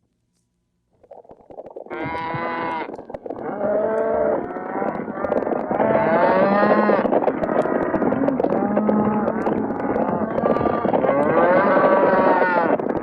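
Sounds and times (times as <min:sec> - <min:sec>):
cattle bellowing and lowing: 0:01.9 - 0:13.0
rumble of running herd: 0:01.9 - 0:13.0.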